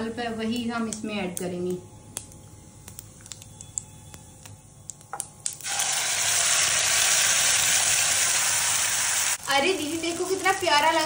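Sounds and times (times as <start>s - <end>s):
seeds crackling in hot oil: 0.2s - 11.0s
loud sizzle of pulp in oil: 1.2s - 11.0s.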